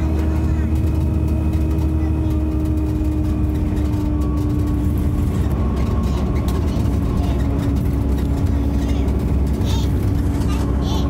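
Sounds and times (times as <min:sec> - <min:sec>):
bus diesel engine rumble: 0:00.0 - 0:11.0
engine whine: 0:00.0 - 0:11.0.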